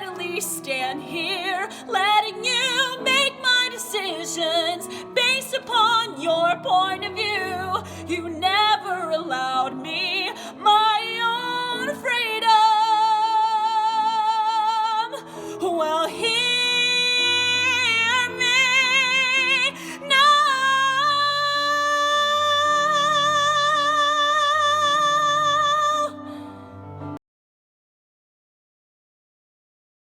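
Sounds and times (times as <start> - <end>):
woman singing with vibrato: 0.0 - 26.3.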